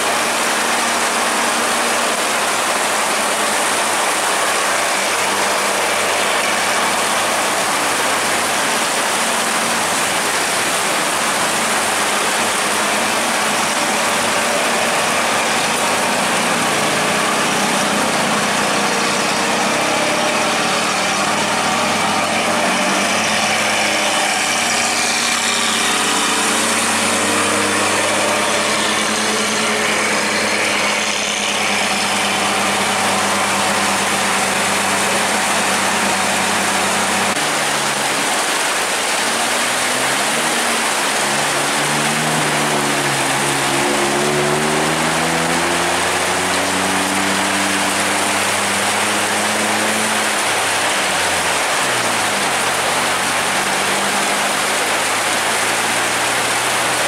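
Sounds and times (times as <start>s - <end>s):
heavy rain on a road: 0.0s - 57.0s
vehicle engines humming: 0.0s - 57.0s.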